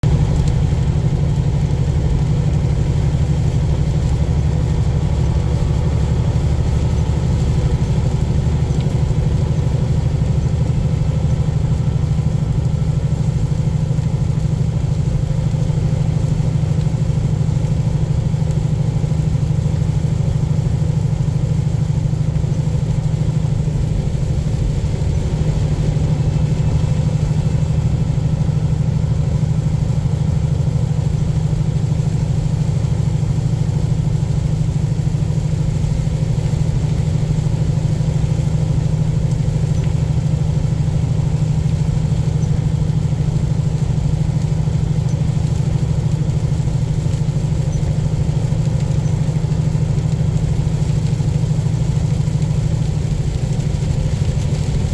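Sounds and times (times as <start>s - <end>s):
diesel truck engine drone: 0.0s - 54.9s
road noise: 0.0s - 54.9s.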